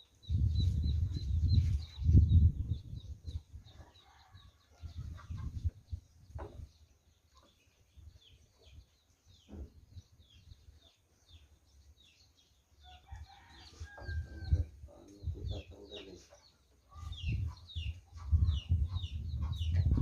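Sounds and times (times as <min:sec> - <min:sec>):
chicks peeping: 0:00.2 - 0:20.0.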